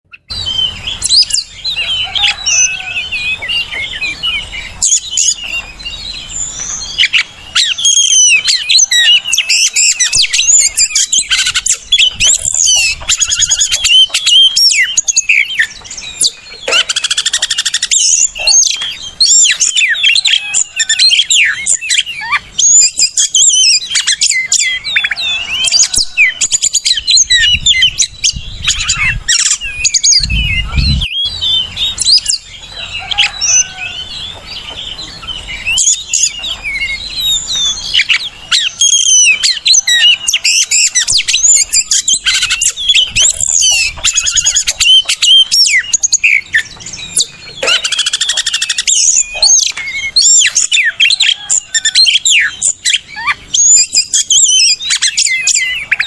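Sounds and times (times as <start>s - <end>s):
bird singing whistles and chirps: 0.1s - 56.0s.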